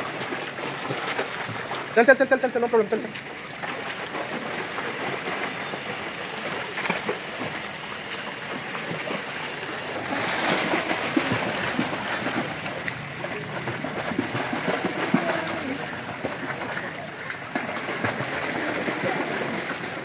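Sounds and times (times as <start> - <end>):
pool water splashing: 0.0 - 20.0.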